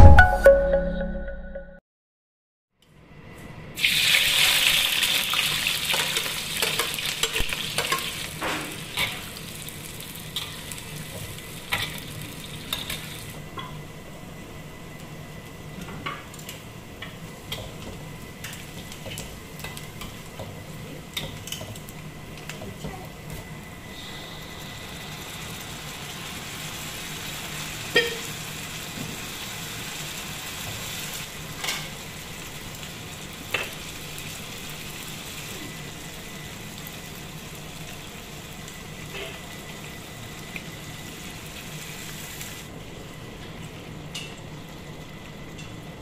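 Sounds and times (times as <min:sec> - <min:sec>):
vegetables sizzling in a wok: 0:03.7 - 0:46.0.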